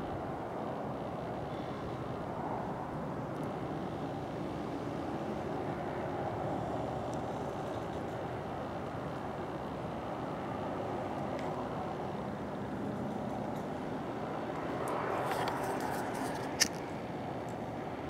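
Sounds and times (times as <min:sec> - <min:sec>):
distant road traffic rumble: 0:00.0 - 0:18.0.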